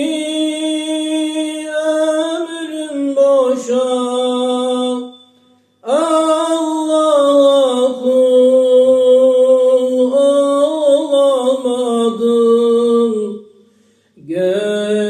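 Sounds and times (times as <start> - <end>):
person singing unaccompanied: 0.0 - 5.1, 5.8 - 13.5, 14.2 - 15.0.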